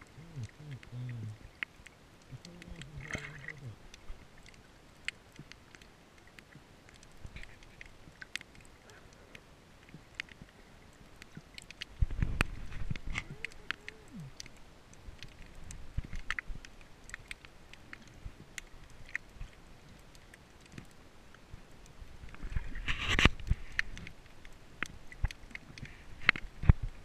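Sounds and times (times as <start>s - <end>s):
underwater clicks and crackles: 0.0s - 27.0s.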